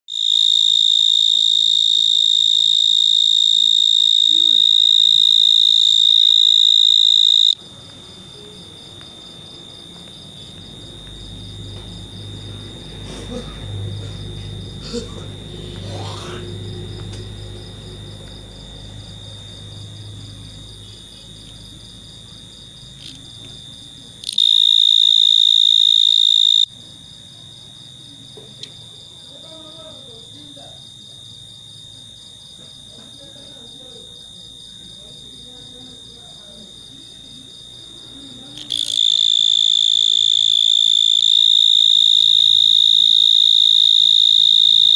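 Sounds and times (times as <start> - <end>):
cricket calling: 0.1 - 27.3, 27.9 - 44.9.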